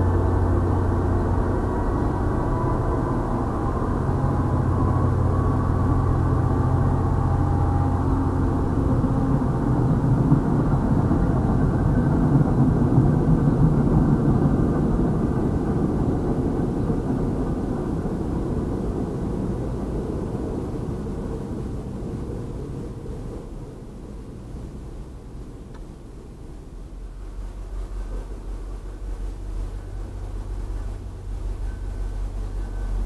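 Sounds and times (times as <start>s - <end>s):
low hum: 0.0s - 33.0s
train wheels rumbling on rails: 0.0s - 33.0s.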